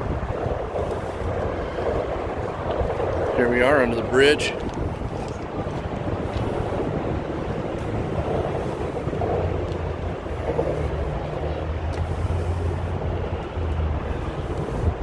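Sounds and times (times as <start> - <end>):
vehicle engines rumbling: 0.0 - 15.0
wind buffeting microphone: 0.0 - 15.0.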